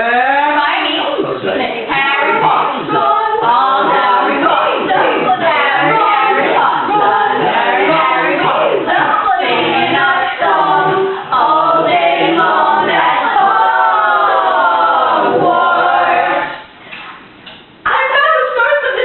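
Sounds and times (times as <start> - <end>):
voices singing together: 0.0 - 16.8.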